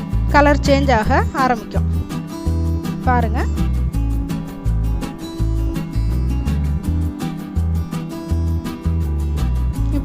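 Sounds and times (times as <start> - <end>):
upbeat acoustic guitar music: 0.0 - 10.0.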